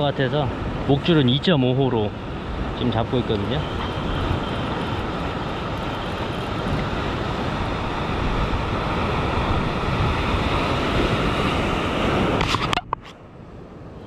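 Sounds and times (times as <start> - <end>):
surf washing against rocks: 0.0 - 13.1
wind on microphone: 0.0 - 14.0.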